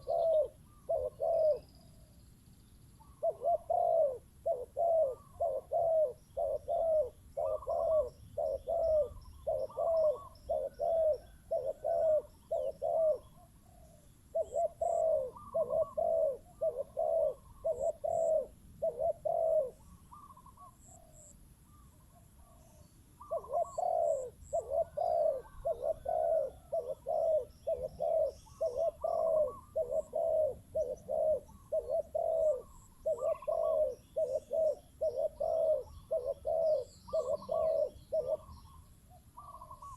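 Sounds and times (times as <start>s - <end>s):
doves cooing: 0.0s - 2.1s, 3.0s - 39.9s.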